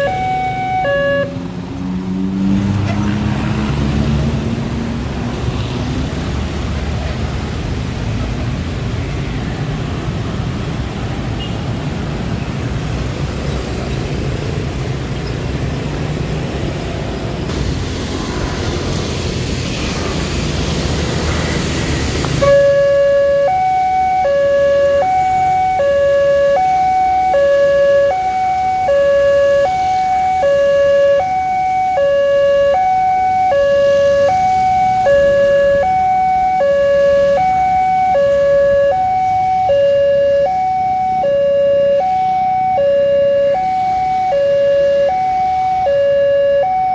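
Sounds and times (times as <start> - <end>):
road vehicle noise: 0.0 - 46.9.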